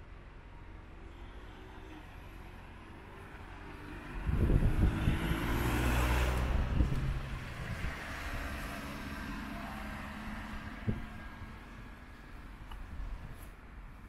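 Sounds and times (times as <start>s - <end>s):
car passing by: 0.9s - 12.4s.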